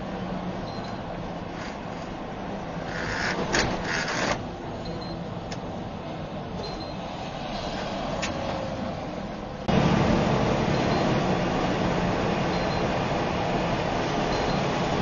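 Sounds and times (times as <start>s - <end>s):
truck engine drone in cab: 0.0s - 15.0s.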